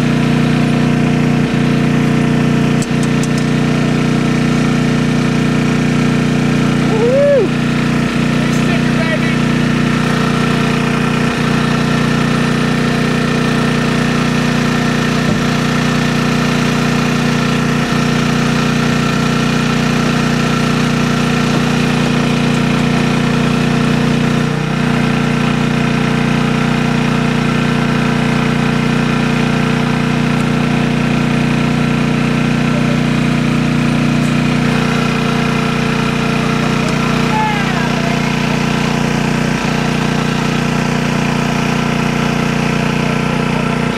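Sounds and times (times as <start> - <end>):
small engine droning: 0.0 - 43.9.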